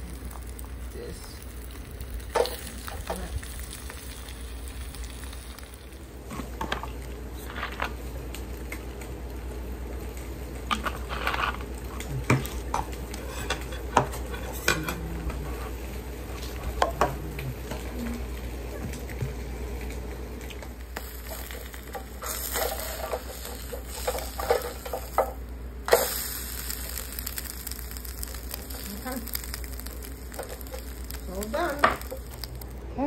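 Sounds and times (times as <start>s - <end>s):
egg sizzling in a pan: 0.0s - 33.0s.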